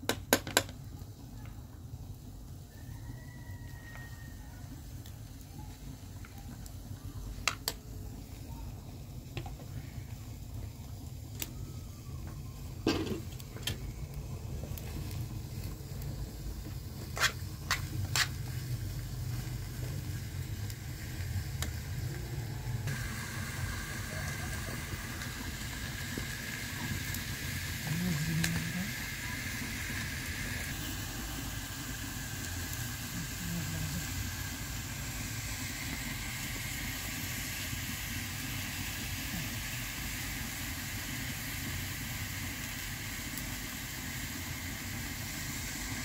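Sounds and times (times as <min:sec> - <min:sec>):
onions sizzling in a pan: 0:00.0 - 0:46.0.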